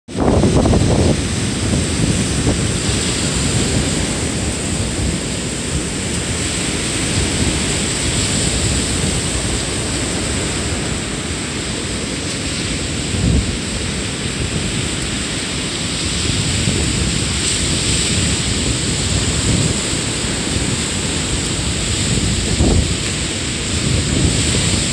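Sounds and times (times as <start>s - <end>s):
wind buffeting microphone: 0.1s - 24.9s.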